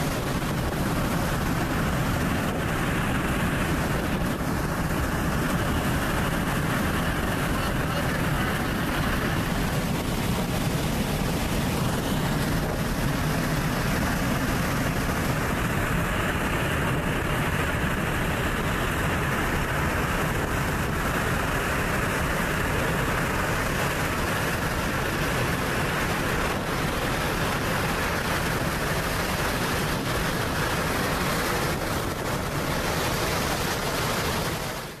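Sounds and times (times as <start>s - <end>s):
jet engine roar: 0.0s - 35.0s.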